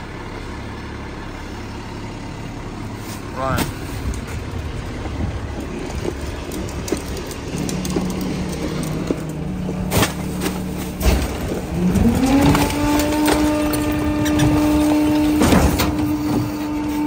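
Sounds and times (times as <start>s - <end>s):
truck engine revving: 0.0s - 17.0s
hydraulic packer blade sweeping: 2.8s - 17.0s
trash crushing cracks: 3.0s - 17.0s.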